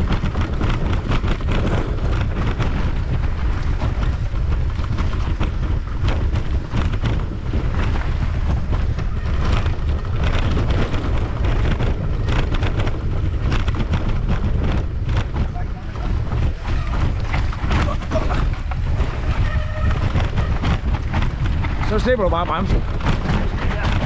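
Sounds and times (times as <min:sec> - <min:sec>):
bike rattling over bumps: 0:00.0 - 0:24.0
wind buffeting microphone: 0:00.0 - 0:24.0.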